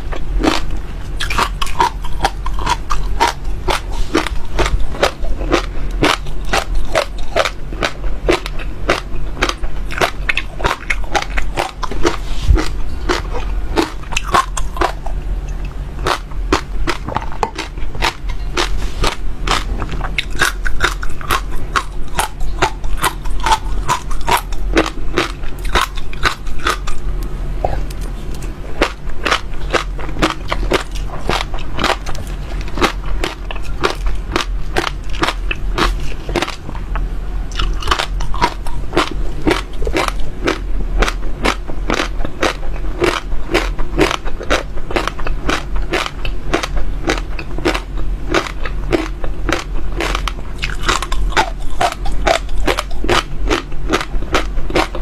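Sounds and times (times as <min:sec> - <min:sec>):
chewing crunchy seeds: 0:00.0 - 0:55.0
steady low hum: 0:00.0 - 0:55.0.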